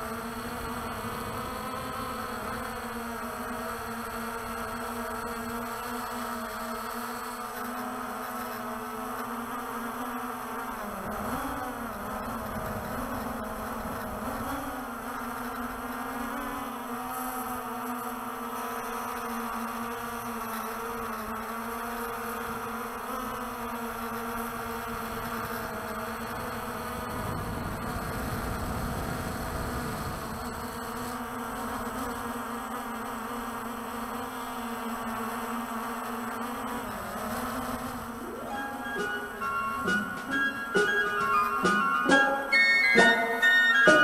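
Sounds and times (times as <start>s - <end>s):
drone rotors buzzing: 0.0s - 44.0s.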